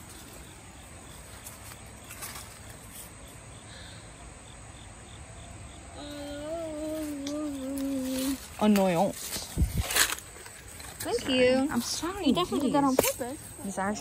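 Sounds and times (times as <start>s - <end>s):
faint insect chirping: 0.0s - 14.0s.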